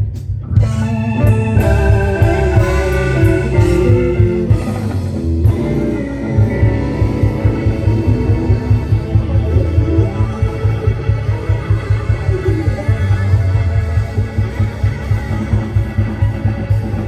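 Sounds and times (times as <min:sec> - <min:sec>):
bass: 0:00.0 - 0:17.0
electric guitar: 0:00.0 - 0:17.0
organ: 0:00.2 - 0:17.0
drum beat: 0:00.7 - 0:17.0.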